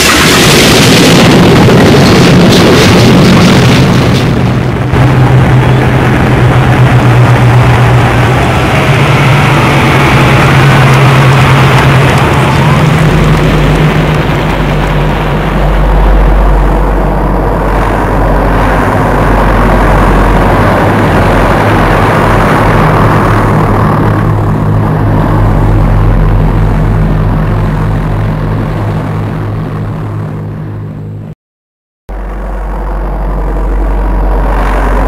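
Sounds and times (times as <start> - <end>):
propeller engines droning: 0.0 - 31.4, 32.1 - 35.0.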